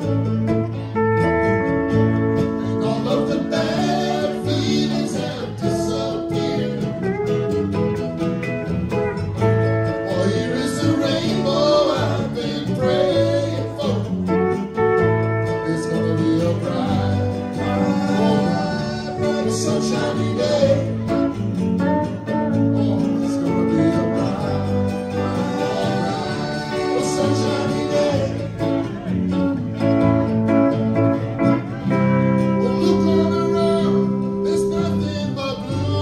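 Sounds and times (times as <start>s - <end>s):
live band playing: 0.0s - 36.0s.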